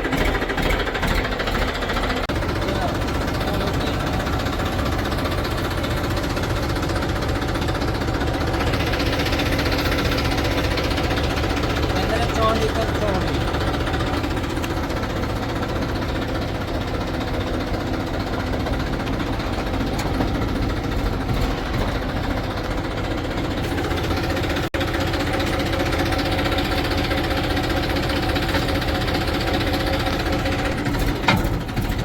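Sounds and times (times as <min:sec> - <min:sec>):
heavy diesel engine knocking: 0:00.0 - 0:32.0.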